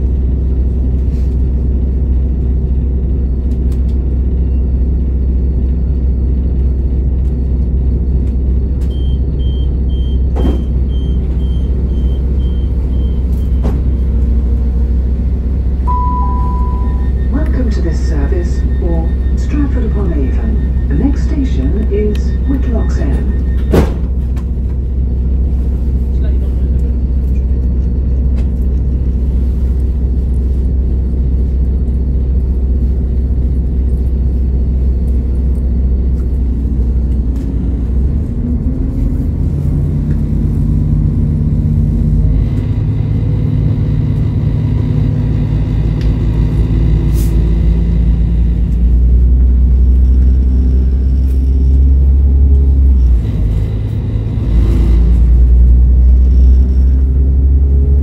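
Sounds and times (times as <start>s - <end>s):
train diesel engine: 0.0s - 58.0s
transmission whine: 0.0s - 58.0s.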